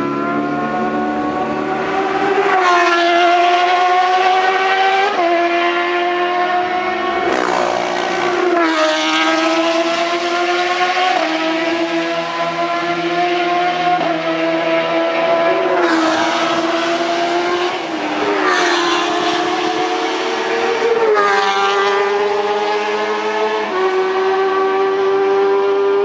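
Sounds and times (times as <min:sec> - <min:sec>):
motorcycle engine revving high: 0:00.0 - 0:26.0.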